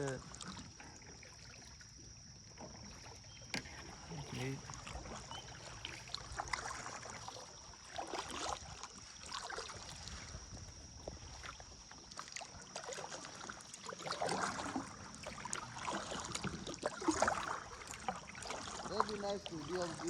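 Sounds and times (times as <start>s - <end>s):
paddle splashing in water: 0.0s - 20.0s.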